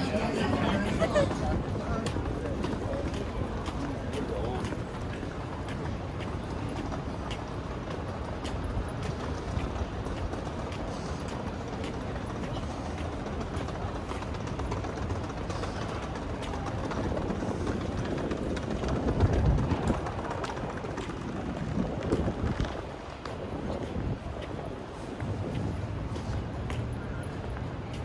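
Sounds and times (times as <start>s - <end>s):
faint footsteps: 0.0s - 28.0s
traffic rumble: 0.0s - 28.0s.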